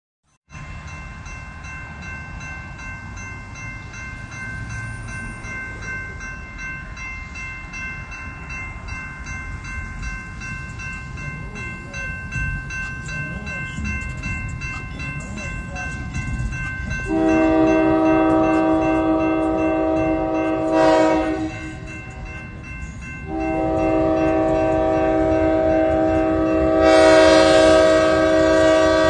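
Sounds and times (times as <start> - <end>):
crossing warning bell ringing: 0.5 - 29.0.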